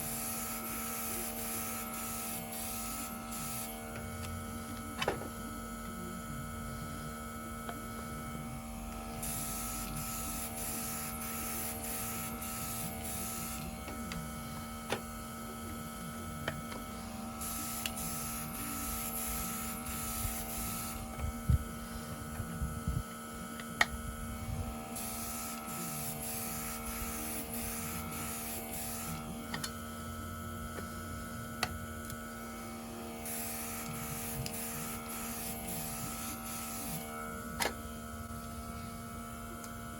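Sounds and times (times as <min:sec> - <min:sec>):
airbrush compressor humming: 0:00.0 - 0:39.9.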